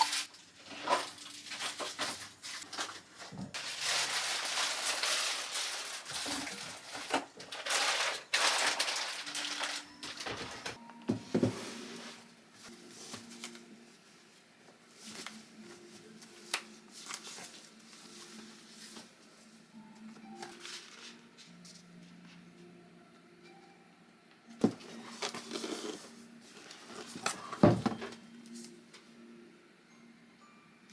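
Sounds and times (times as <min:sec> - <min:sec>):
rustling and crinkling handling: 0:00.0 - 0:22.4, 0:24.6 - 0:28.8.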